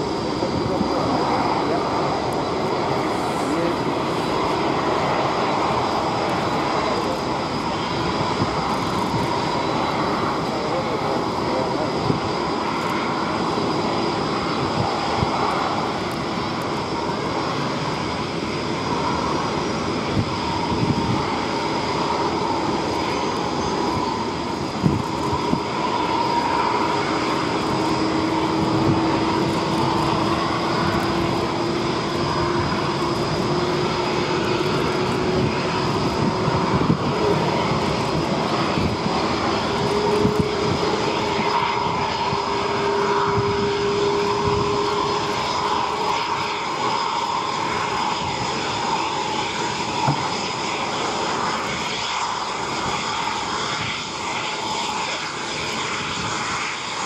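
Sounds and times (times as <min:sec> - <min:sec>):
jet engines running: 0:00.0 - 0:57.0
rising engine whine: 0:00.0 - 0:57.0.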